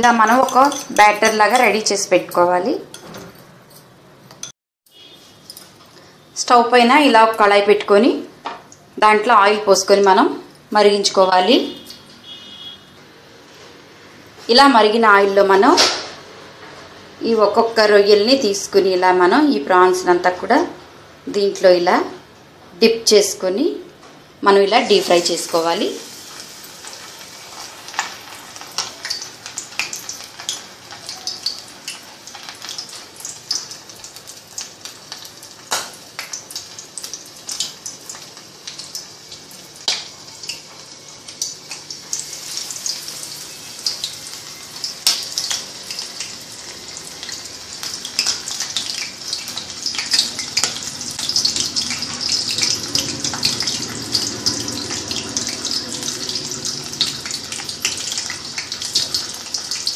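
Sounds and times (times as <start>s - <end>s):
deep-frying sizzle with pops: 4.3s - 22.9s, 23.6s - 59.9s.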